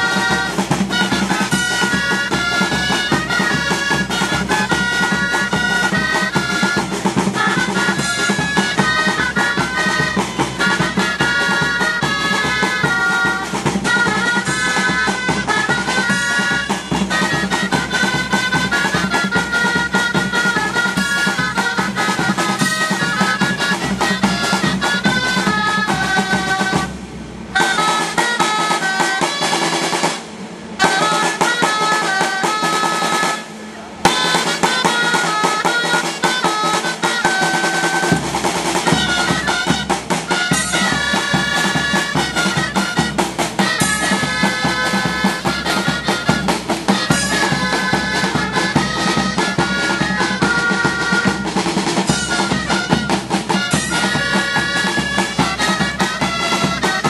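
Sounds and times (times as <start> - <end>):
drum beat with rolls: 0.0 - 57.0
shawm melody: 0.0 - 57.0.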